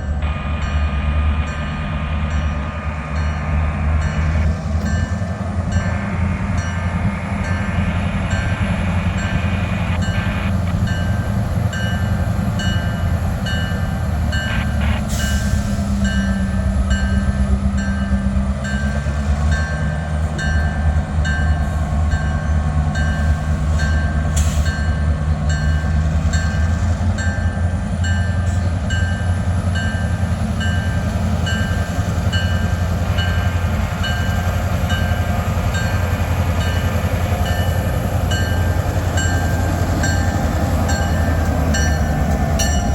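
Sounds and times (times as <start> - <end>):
freight train rumbling by: 0.0 - 42.9.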